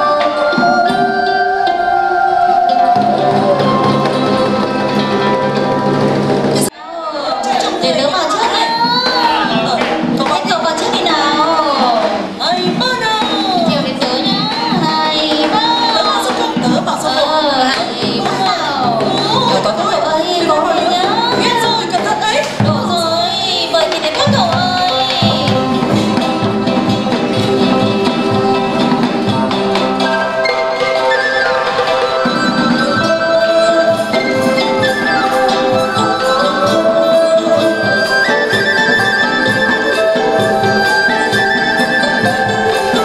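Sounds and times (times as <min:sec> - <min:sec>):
drum strokes: 0:00.0 - 0:06.8, 0:07.4 - 0:43.0
plucked instrumental notes: 0:00.0 - 0:06.8, 0:07.4 - 0:43.0
person singing sliding melody: 0:00.0 - 0:43.0.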